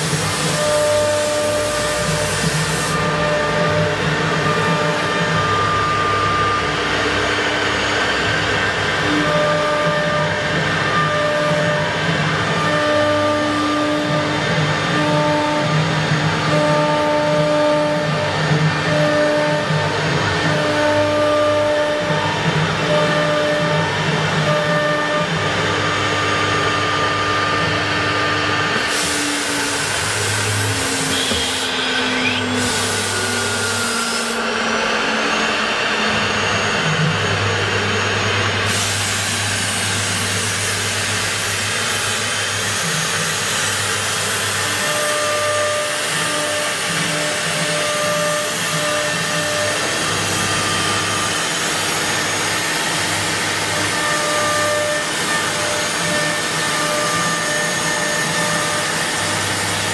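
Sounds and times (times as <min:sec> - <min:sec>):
motor tones gliding in pitch: 0:00.0 - 0:59.9
wood router cutting: 0:00.0 - 0:59.9.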